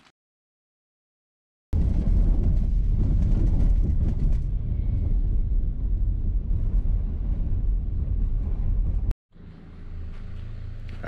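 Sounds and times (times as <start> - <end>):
vehicle rumbling on dirt road: 1.8 - 11.0.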